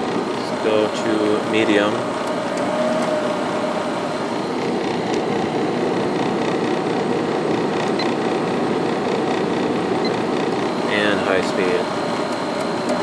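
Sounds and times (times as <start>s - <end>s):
air conditioner whoosh and hum: 0.0s - 13.0s.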